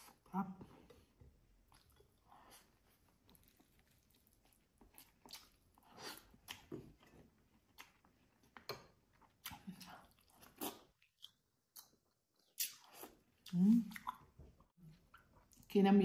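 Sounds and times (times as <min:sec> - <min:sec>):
person chewing food: 0:00.9 - 0:15.6.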